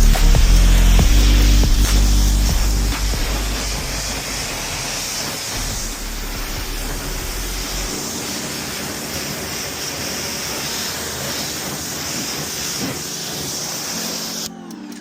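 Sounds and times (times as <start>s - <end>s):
pressure washer spraying water: 0.0s - 14.5s.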